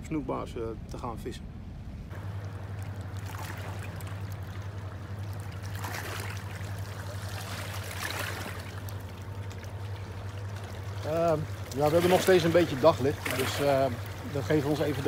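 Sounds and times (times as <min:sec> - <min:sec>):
steady low hum: 0:00.0 - 0:15.0
loud water splashes: 0:02.1 - 0:15.0
water lapping against stone bank: 0:02.1 - 0:15.0.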